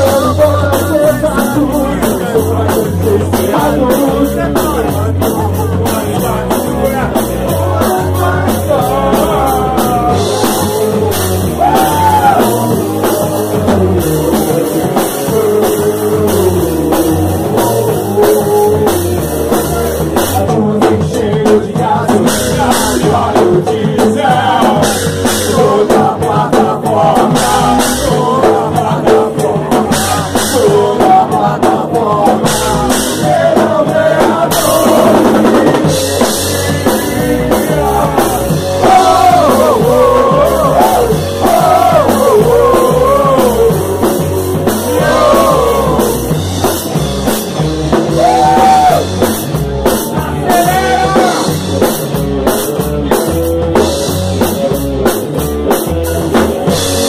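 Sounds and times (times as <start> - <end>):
person singing: 0.0 - 57.0
rock band playing: 0.0 - 57.0.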